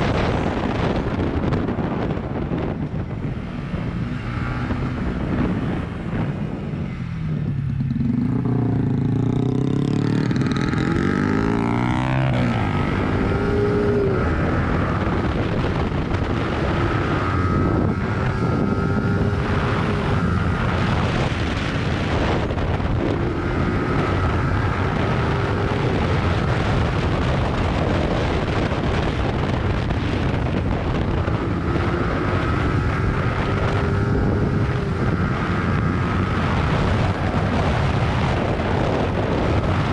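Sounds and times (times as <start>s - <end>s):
motorcycle engine accelerating: 0.0s - 39.9s
wind over microphone: 0.0s - 39.9s.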